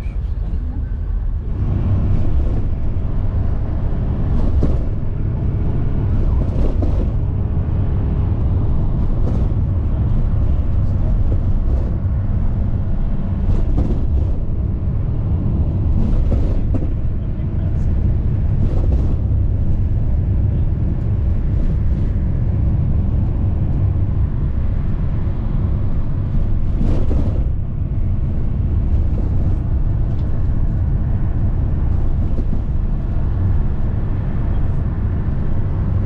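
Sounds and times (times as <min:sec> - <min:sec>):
vehicle road and engine rumble: 0:00.0 - 0:36.0.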